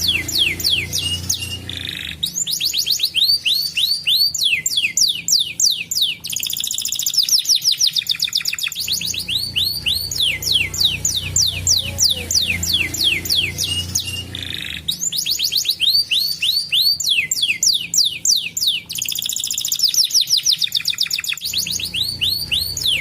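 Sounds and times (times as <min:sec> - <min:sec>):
canary singing trills: 0:00.0 - 0:23.0.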